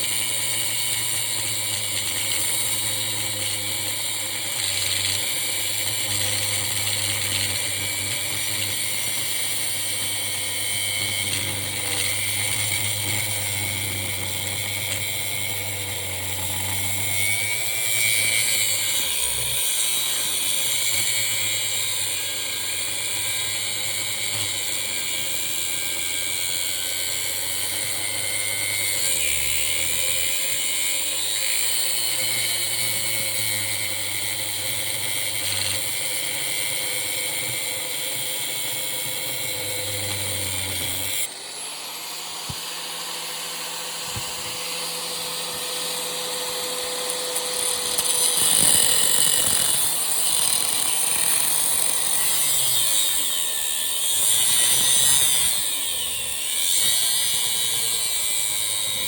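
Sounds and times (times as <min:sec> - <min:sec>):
power tool high-pitched whine: 0:00.0 - 0:59.0.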